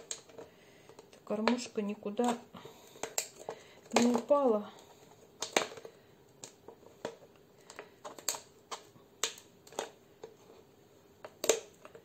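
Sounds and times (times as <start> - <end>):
plastic bottle crackling and clicking: 0.0 - 10.4, 11.2 - 12.0.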